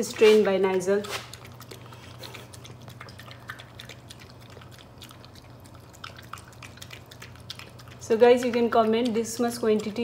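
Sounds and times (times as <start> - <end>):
low steady hum: 0.0 - 10.0
puppy chewing and lapping food: 0.0 - 10.0.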